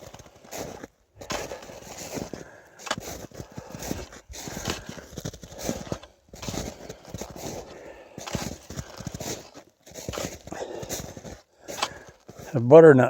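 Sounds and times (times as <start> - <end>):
footsteps walking: 0.0 - 12.6.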